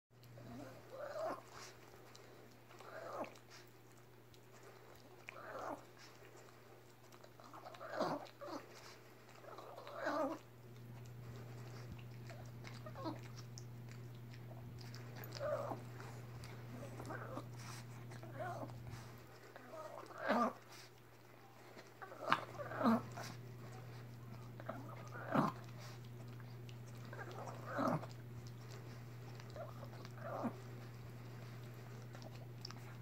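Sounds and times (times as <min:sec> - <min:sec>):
dog moaning: 0:00.2 - 0:03.7, 0:04.9 - 0:06.2, 0:07.1 - 0:33.0
dog licking: 0:00.2 - 0:33.0.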